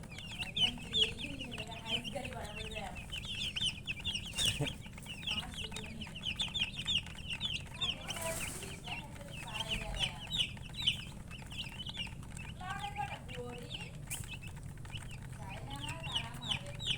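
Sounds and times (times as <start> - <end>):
chicks peeping: 0.0 - 16.9
hen clucking: 0.0 - 16.9.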